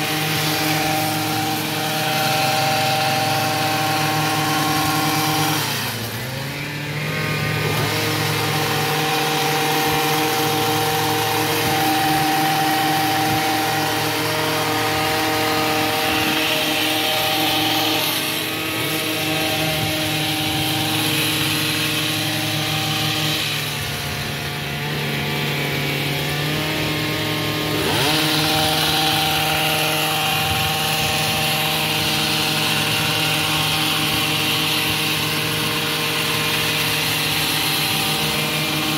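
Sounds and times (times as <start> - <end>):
hedge trimmer engine running: 0.0 - 38.9.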